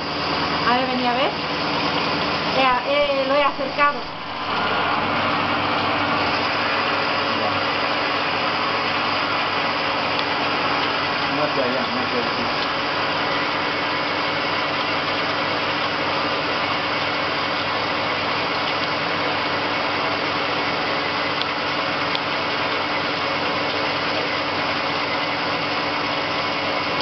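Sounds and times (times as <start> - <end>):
constant hum: 0.0 - 27.0
lathe machining metal: 0.0 - 27.0.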